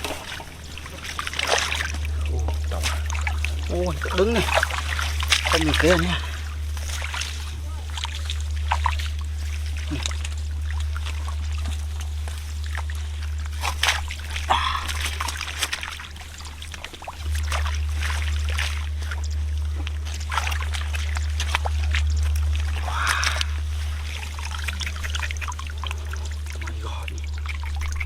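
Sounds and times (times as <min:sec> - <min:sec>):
shallow water sloshing: 0:00.0 - 0:28.0
sharp splashes and knocks: 0:00.0 - 0:28.0
steady low hum: 0:00.0 - 0:28.0.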